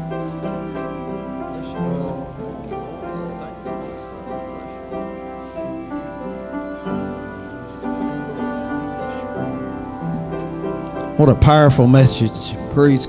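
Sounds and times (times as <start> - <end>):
slow instrumental music: 0.0 - 13.0.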